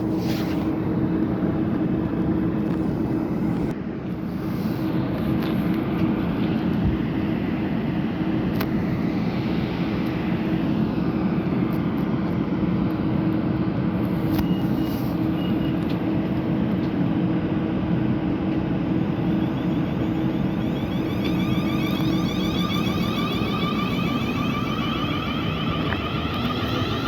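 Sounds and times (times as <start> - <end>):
electric train rumble: 0.0 - 27.0.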